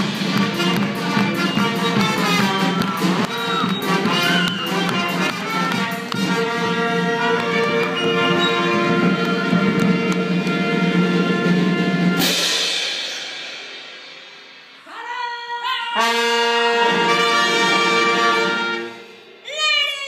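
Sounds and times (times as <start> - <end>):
brass band with drums playing: 0.0 - 19.4.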